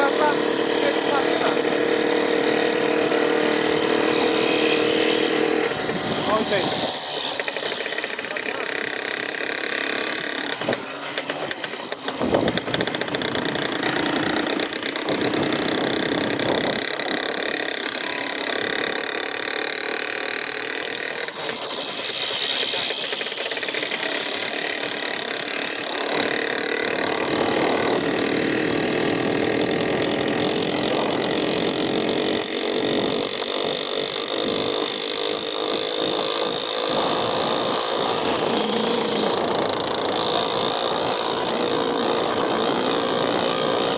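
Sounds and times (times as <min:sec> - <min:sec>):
vehicle engine running: 0:00.0 - 0:33.2, 0:35.6 - 0:43.9.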